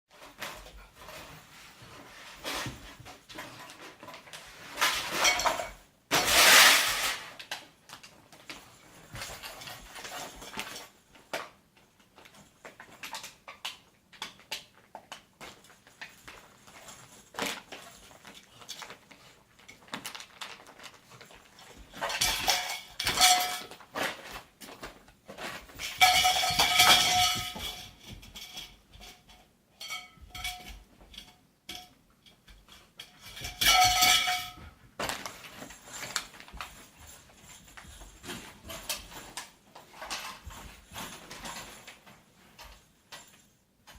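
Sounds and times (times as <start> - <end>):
household objects clattering: 0.1 - 43.9.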